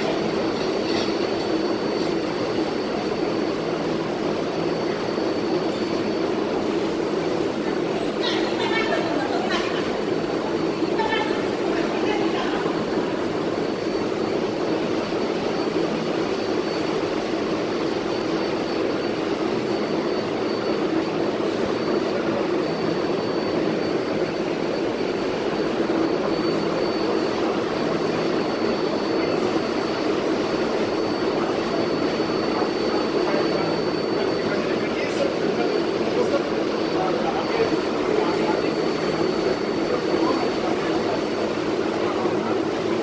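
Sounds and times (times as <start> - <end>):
faint high whine: 0.0 - 43.0
subway train drone: 0.0 - 43.0.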